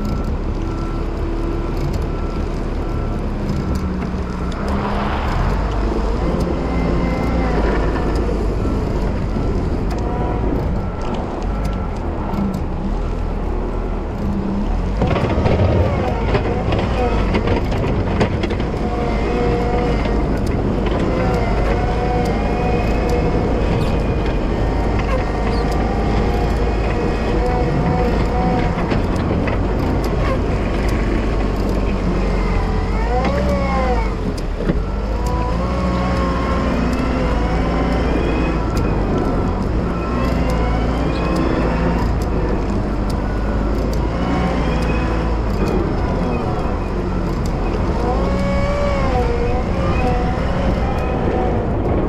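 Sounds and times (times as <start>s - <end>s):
wheel loader diesel engine: 0.0s - 52.0s.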